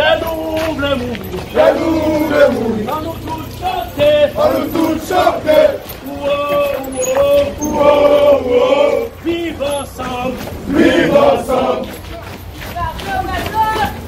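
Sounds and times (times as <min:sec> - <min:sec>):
men singing a chant in unison: 0:00.0 - 0:12.1.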